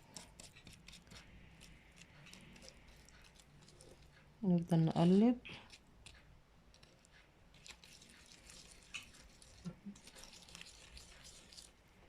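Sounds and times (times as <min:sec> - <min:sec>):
spoon stirring thick paste: 0:00.0 - 0:11.8.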